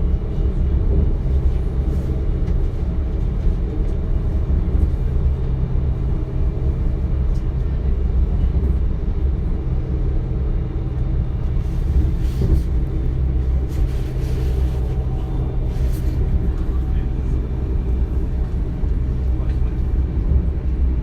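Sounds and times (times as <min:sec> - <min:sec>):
train rumbling from inside carriage: 0:00.0 - 0:21.0.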